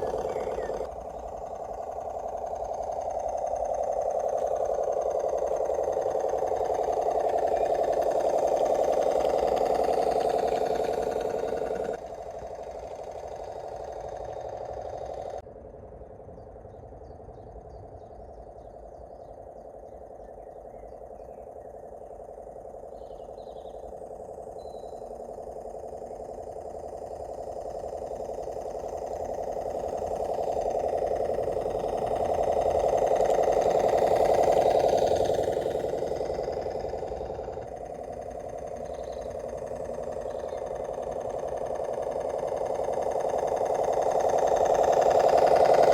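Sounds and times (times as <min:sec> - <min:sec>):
model train motor hum: 0:00.0 - 0:45.9.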